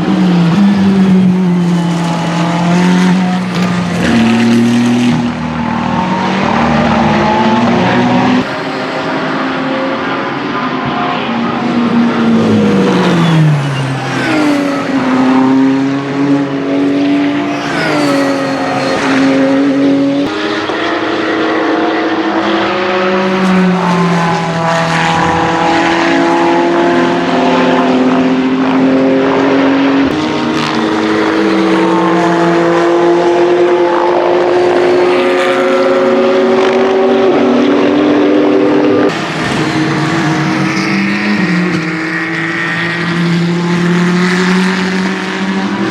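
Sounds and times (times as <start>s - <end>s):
race car engine accelerating: 0.0s - 45.9s.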